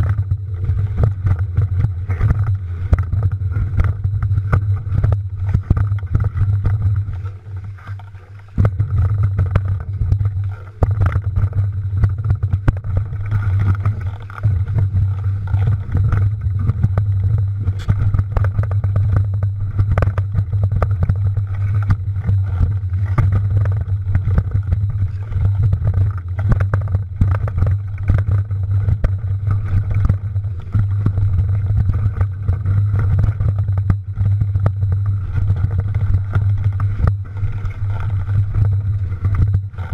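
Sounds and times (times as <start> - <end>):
bike rattling over rough trail: 0.0 - 39.9.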